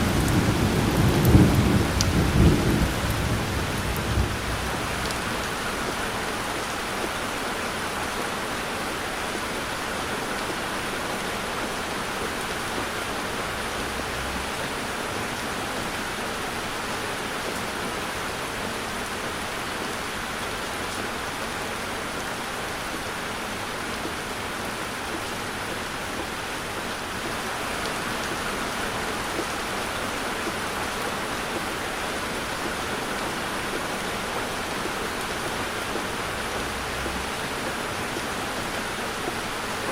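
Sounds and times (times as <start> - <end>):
heavy rain on a car: 0.0 - 39.9.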